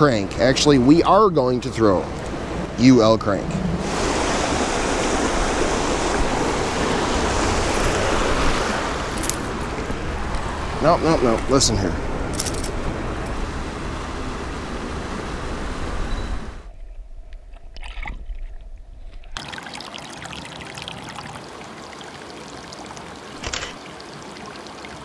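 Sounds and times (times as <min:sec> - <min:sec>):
water rushing over cascade: 0:00.0 - 0:16.1, 0:19.4 - 0:25.0.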